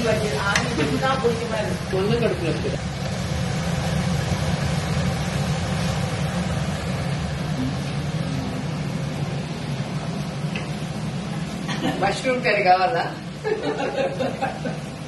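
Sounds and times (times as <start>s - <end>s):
gas burner hiss: 0.0s - 15.0s
gas stove burner hum: 0.0s - 15.0s.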